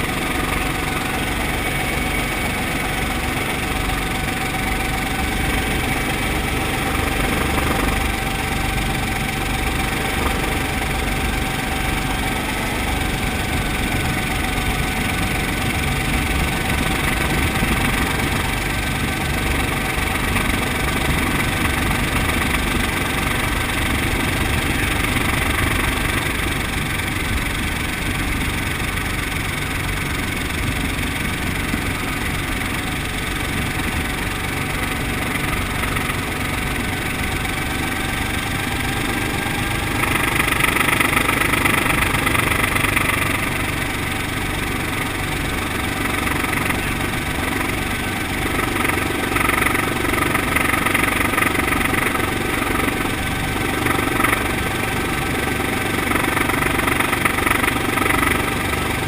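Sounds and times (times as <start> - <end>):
helicopter engine and rotor: 0.0 - 59.0.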